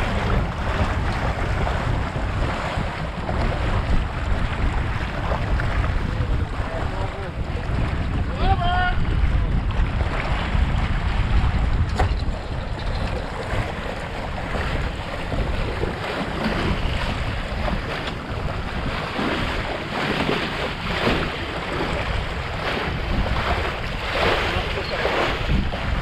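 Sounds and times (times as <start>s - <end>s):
water splashing along hull: 0.0s - 26.0s
wind buffeting microphone: 0.0s - 26.0s.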